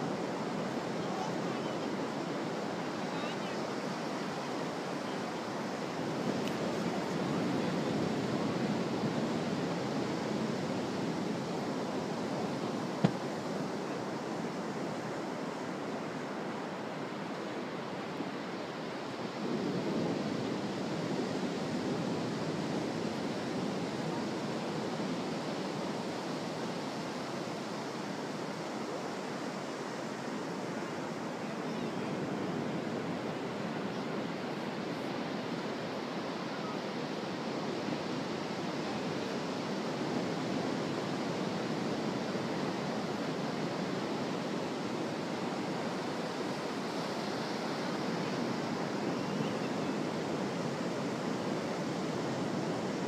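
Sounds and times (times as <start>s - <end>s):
ocean surf on sandy beach: 0.0s - 53.0s.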